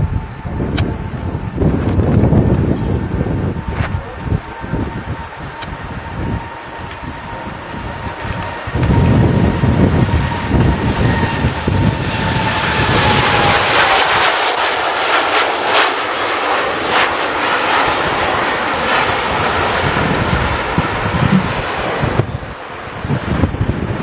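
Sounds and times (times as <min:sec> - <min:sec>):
crackling jet noise: 0:00.0 - 0:24.0
engine fan whine: 0:00.0 - 0:24.0
jet engine rumble: 0:00.0 - 0:24.0.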